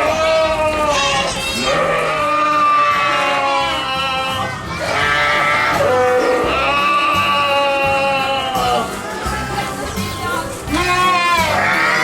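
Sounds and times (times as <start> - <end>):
sheep and lambs bleating: 0.0 - 8.9, 10.7 - 12.0.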